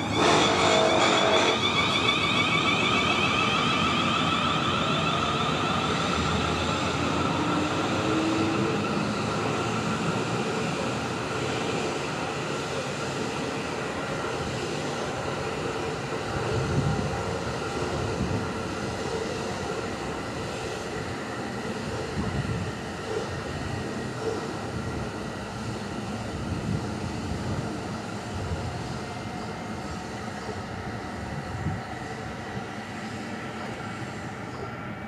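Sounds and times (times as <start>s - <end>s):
electric train rumbling on rails: 0.0s - 35.0s.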